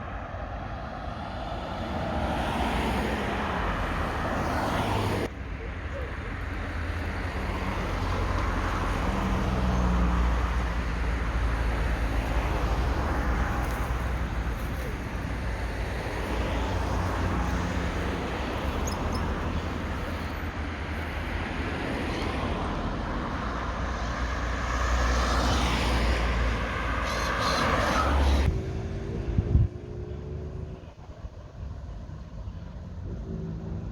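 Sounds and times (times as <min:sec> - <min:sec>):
road traffic rumble: 0:00.0 - 0:33.9
vehicles passing: 0:00.0 - 0:33.9.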